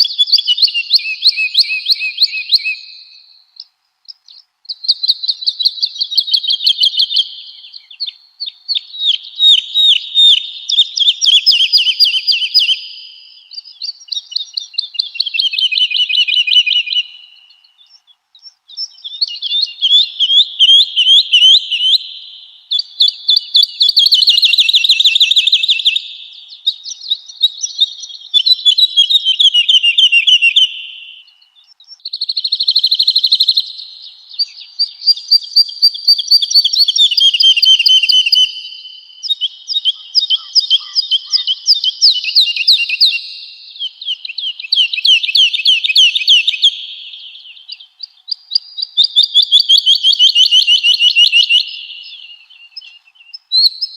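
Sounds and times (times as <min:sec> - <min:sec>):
woodlark singing trilled phrases: 0:00.0 - 0:53.9.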